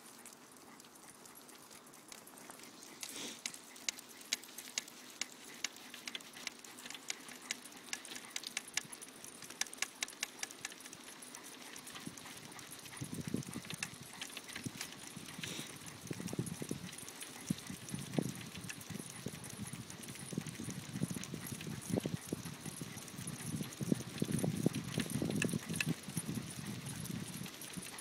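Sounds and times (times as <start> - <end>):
dog claws clicking on asphalt: 0.4 - 26.0.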